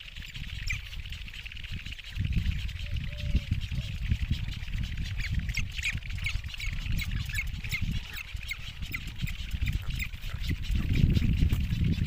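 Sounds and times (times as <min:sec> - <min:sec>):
bird chicks squeaky begging calls: 0:00.0 - 0:12.0.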